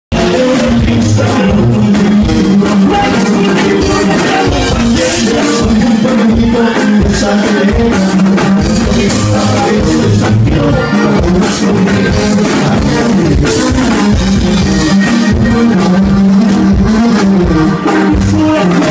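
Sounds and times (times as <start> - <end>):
rock music with guitar and drums: 0.1 - 18.9.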